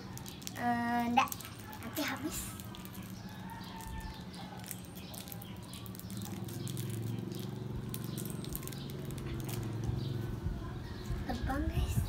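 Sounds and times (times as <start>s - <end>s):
candy wrappers crinkling: 0.0s - 10.0s.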